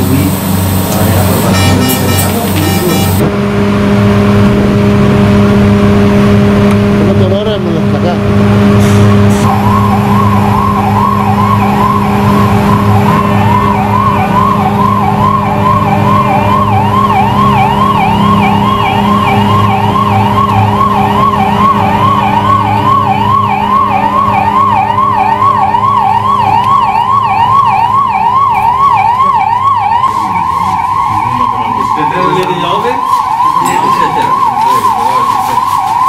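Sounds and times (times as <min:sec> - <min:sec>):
ambulance siren yelping: 0:00.0 - 0:03.4, 0:09.3 - 0:36.0.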